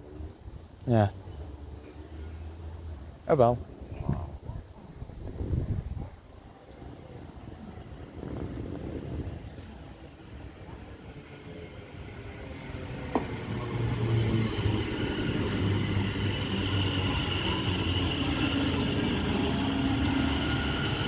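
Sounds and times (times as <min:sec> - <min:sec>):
train rumble with whine: 0:01.4 - 0:21.0.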